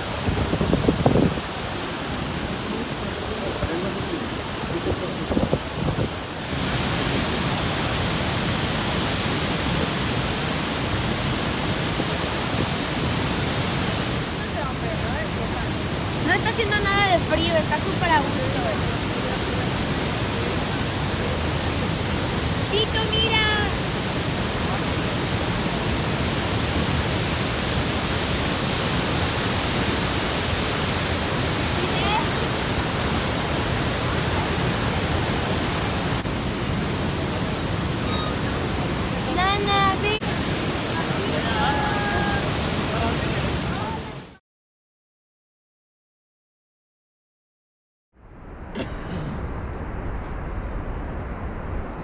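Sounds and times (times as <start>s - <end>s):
waterfall roaring: 0.0s - 44.4s.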